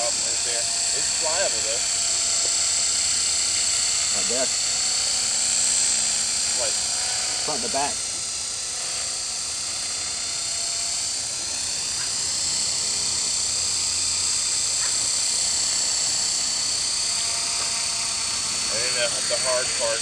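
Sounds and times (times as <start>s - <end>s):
rc helicopter rotor whine: 0.0s - 20.0s.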